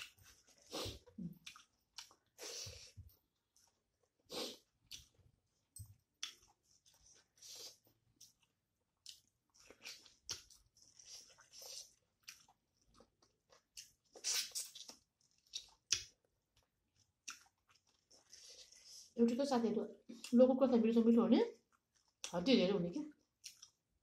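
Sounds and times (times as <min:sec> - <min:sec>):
person chewing food: 0:00.0 - 0:19.2, 0:21.6 - 0:22.3, 0:23.1 - 0:24.0.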